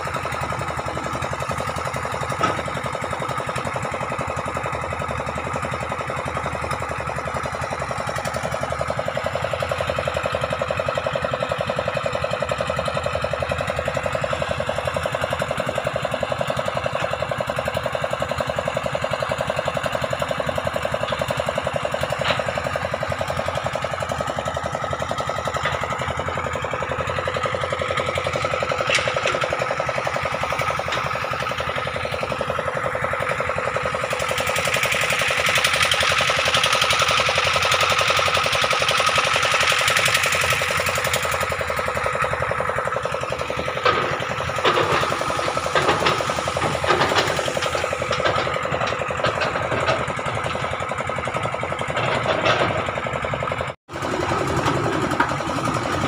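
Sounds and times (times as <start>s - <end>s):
water pump engine knocking: 0.0s - 56.0s.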